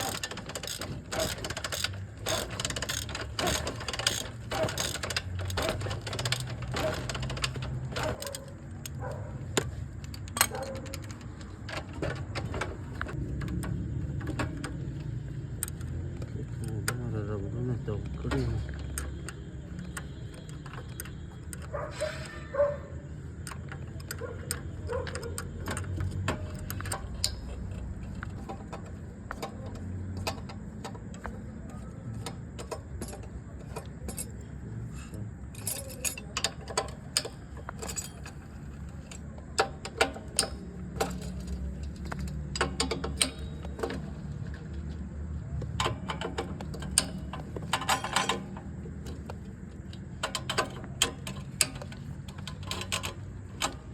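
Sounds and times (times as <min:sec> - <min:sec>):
metallic clicks and clinks: 0:00.0 - 0:13.8, 0:23.4 - 0:53.9.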